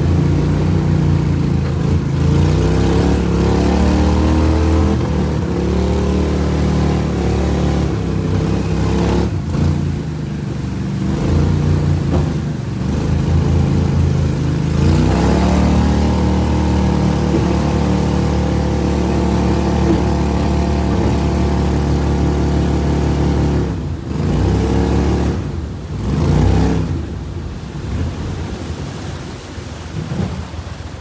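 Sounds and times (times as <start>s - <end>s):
boat engine running: 0.0s - 28.6s.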